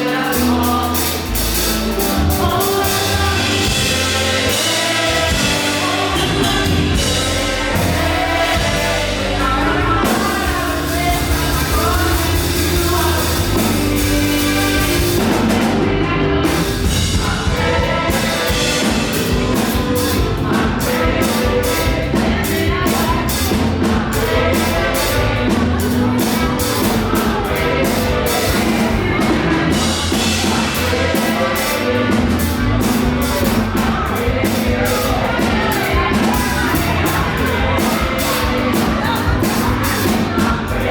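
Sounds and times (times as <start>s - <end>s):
backing singers: 0.0s - 40.9s
gospel band playing: 0.0s - 40.9s.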